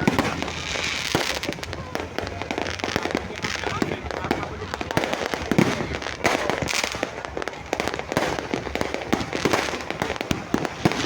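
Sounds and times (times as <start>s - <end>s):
fireworks and firecrackers bangs: 0.0s - 11.0s.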